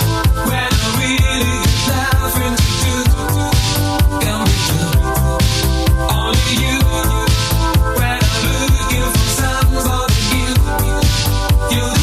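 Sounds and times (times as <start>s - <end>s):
dance music with fast beat: 0.0s - 12.0s.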